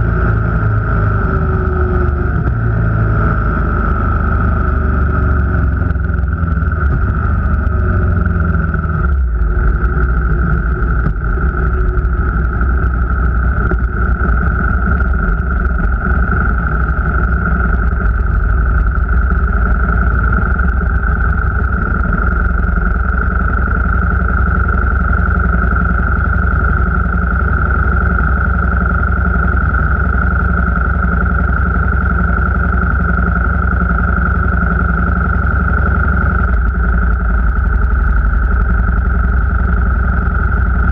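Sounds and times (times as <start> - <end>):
engine and road rumble: 0.0 - 40.9
high-pitched whine: 0.0 - 40.9.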